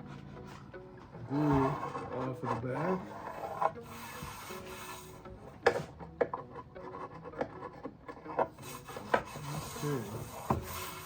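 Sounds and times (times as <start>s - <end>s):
faint music: 0.0s - 11.0s
rubbing and handling: 0.0s - 11.0s.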